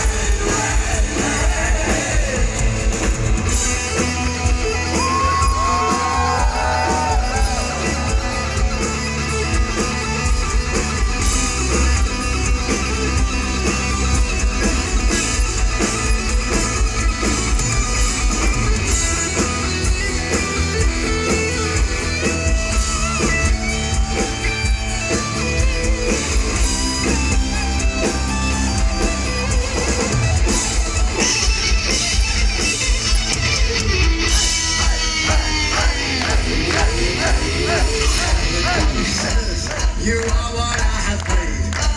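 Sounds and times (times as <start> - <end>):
bass guitar: 0.0 - 41.9
drums: 0.0 - 41.9
electric guitars: 0.0 - 41.9.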